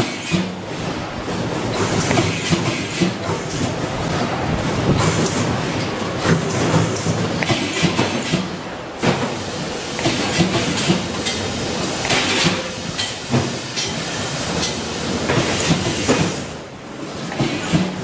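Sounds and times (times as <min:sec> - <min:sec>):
clattering machinery: 0:00.0 - 0:18.0.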